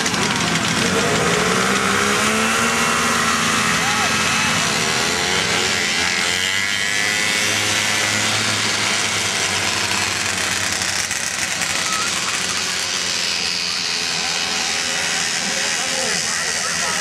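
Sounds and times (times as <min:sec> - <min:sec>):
snowmobiles passing at speed: 0:00.0 - 0:17.0.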